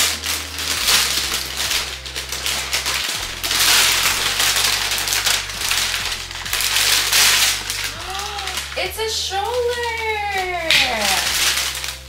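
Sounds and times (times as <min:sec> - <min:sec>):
wrapping paper tearing and crinkling: 0:00.0 - 0:12.0.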